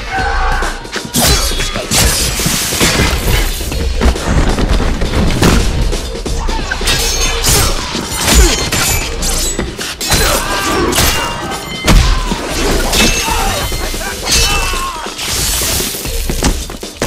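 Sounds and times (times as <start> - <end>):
low pounding music: 0.0 - 17.0.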